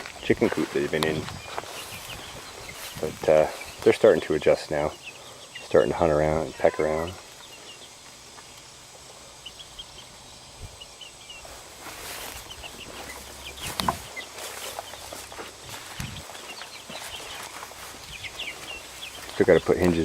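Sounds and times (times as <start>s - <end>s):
chicks peeping and chirping: 0.0s - 20.0s.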